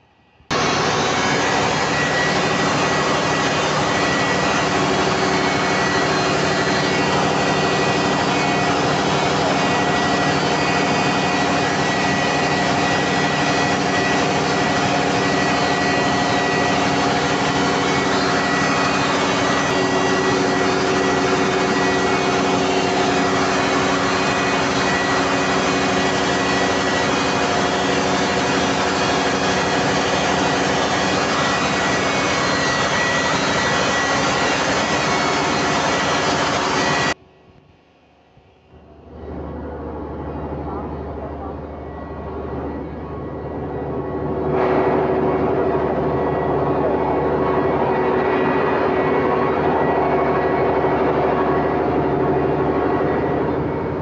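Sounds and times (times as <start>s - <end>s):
high whine: 0.0s - 54.0s
diesel generator engine drone: 0.4s - 54.0s.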